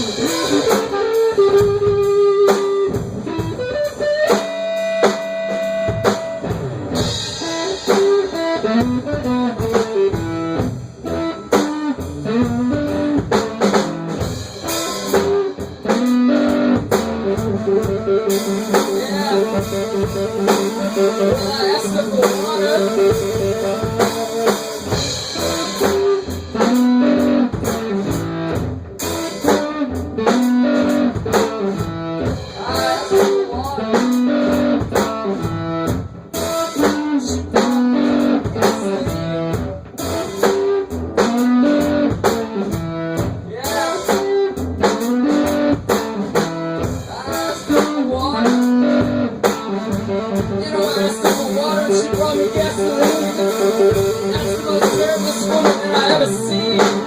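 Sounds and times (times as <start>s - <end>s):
blues guitar: 0.0s - 57.0s
drum kit beat: 0.0s - 57.0s.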